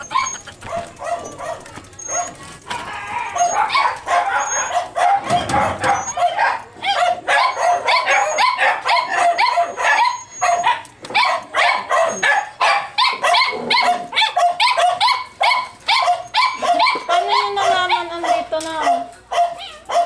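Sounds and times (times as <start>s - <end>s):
small dogs barking and yipping: 0.0s - 20.0s.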